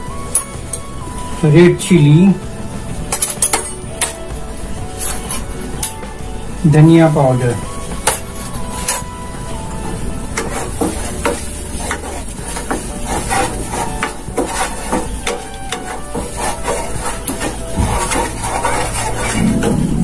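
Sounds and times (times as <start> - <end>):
spices sizzling in a pan: 3.8 - 20.0.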